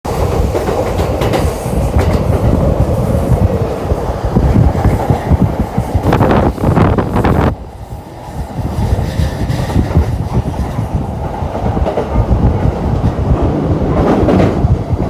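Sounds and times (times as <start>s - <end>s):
train rushing past: 0.1s - 15.0s.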